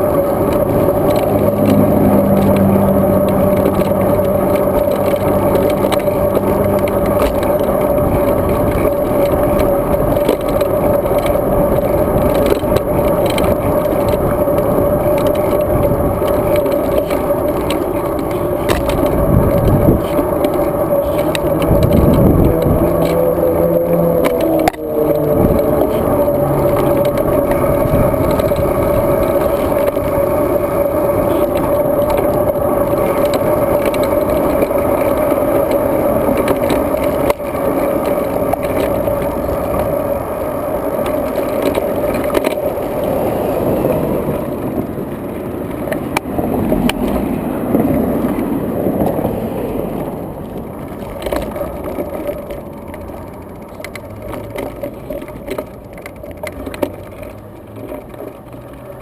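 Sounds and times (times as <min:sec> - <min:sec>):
constant hum: 0:00.0 - 0:59.0
road bike riding rumble and rattle: 0:00.0 - 0:59.0.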